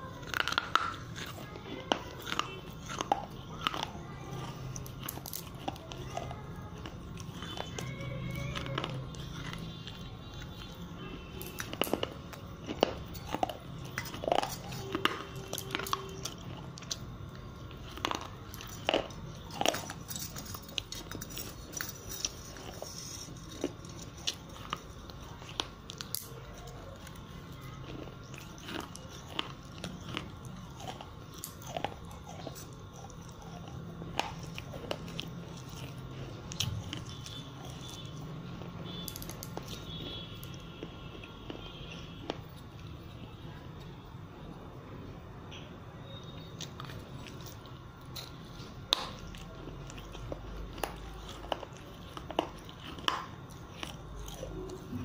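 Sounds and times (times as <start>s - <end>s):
person crunching hard food: 0.0s - 44.6s, 46.0s - 55.0s.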